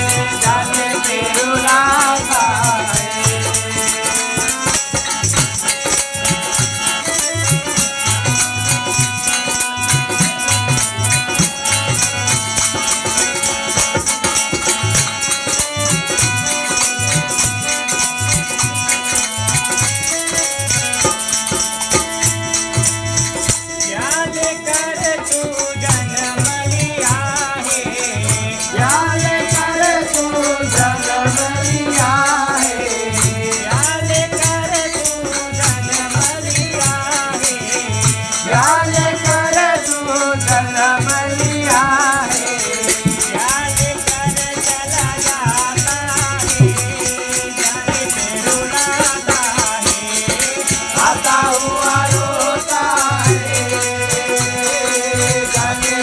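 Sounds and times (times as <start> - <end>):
person singing: 0.0 - 13.2, 22.8 - 56.0
harmonium playing held notes: 0.0 - 56.0
rattling percussion: 0.0 - 56.0.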